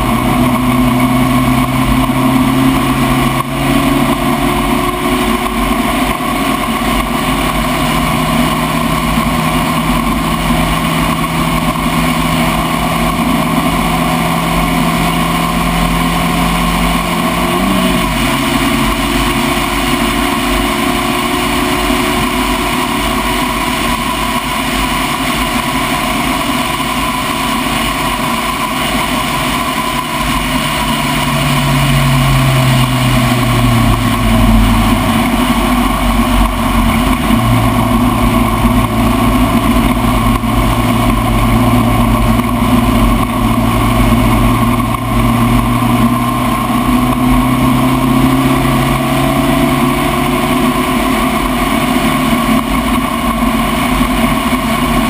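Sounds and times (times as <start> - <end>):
race car engine under load: 0.0 - 55.0.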